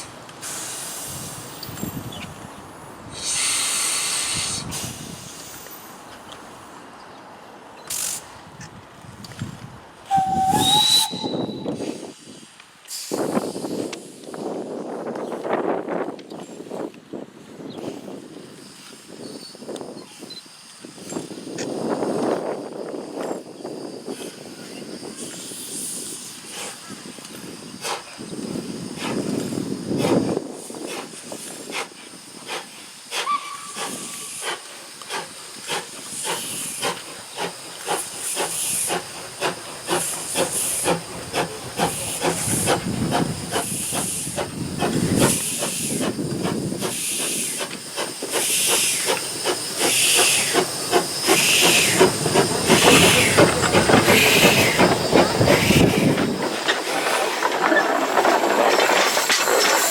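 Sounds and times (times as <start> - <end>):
steam locomotive chuffing: 0.0 - 2.0, 3.1 - 5.7, 10.0 - 14.9, 17.8 - 59.9
steam hissing: 0.0 - 6.8, 7.8 - 8.4, 10.1 - 15.6, 16.4 - 59.9.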